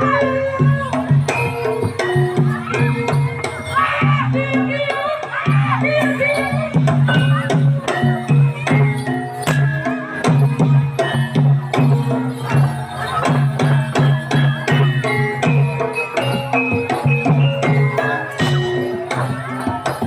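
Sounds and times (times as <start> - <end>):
drums beating steady pulse: 0.0 - 20.0
struck metal keys and gongs: 0.0 - 20.0.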